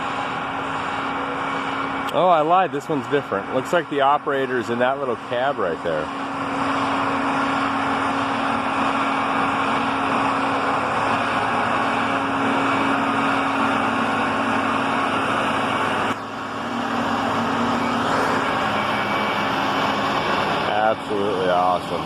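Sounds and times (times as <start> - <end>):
engine hum: 0.0 - 22.0
vehicle noise rush: 0.0 - 22.0.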